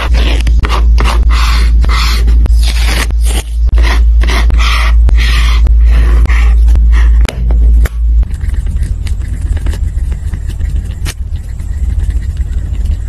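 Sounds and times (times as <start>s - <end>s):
pen scratching on paper: 0.0s - 7.2s, 8.2s - 13.0s
handling rumble: 0.0s - 13.0s.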